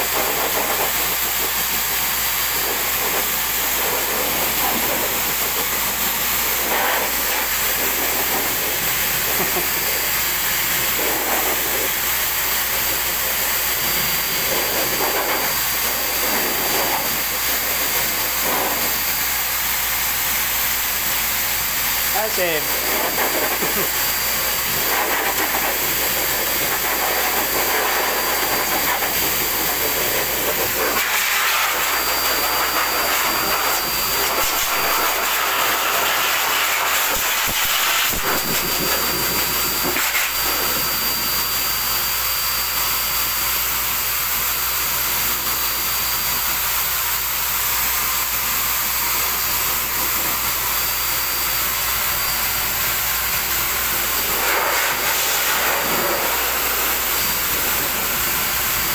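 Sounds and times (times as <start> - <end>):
pet dryer blowing air: 0.0 - 58.9.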